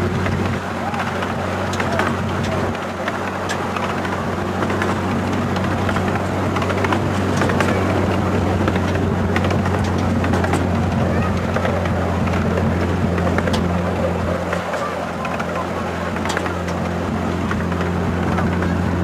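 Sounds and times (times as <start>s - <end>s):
carriage clicking over track: 0.0s - 19.0s
locomotive engine drone: 0.0s - 19.0s.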